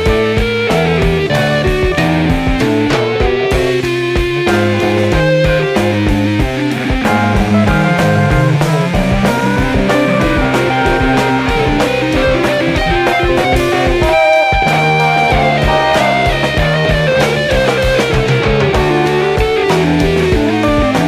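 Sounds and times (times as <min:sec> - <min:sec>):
progressive rock instrumental: 0:00.0 - 0:21.0.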